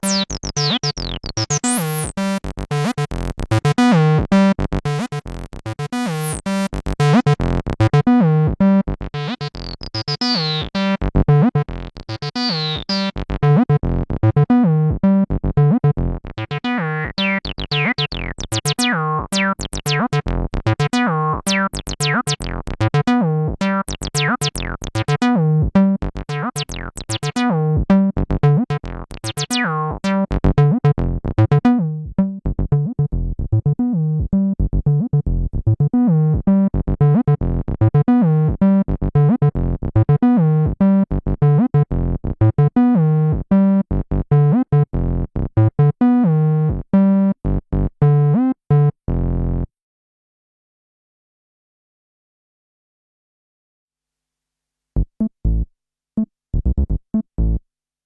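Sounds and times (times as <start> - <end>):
squelchy synth bassline: 0.0 - 49.7, 55.0 - 55.7, 56.6 - 57.6.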